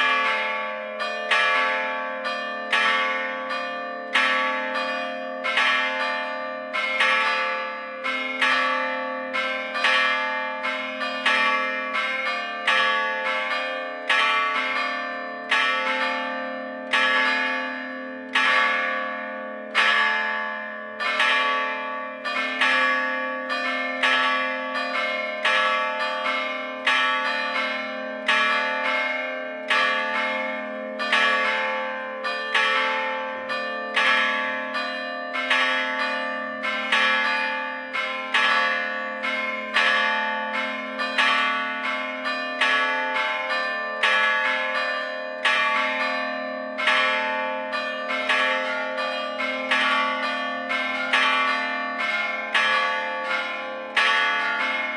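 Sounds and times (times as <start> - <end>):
church bells struck by hammers: 0.0 - 54.9.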